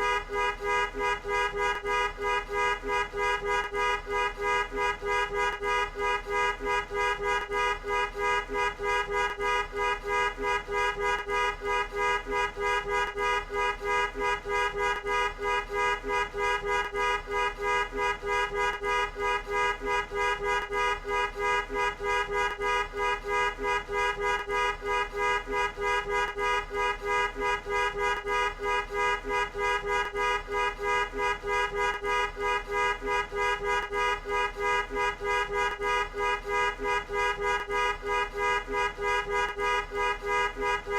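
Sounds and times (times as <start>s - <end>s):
car horn pulsing: 0.0s - 40.9s.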